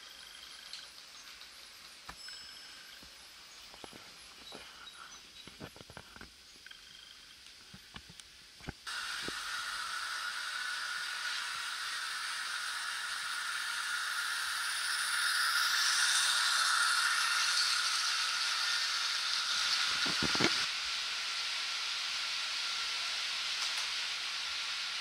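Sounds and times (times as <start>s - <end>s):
model train whirring: 0.0s - 5.2s, 5.9s - 25.0s.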